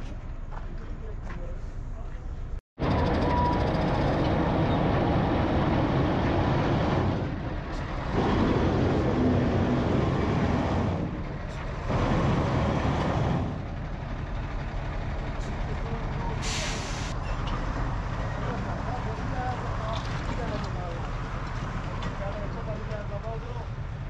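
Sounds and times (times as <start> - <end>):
heavy truck engine running: 2.8 - 24.0.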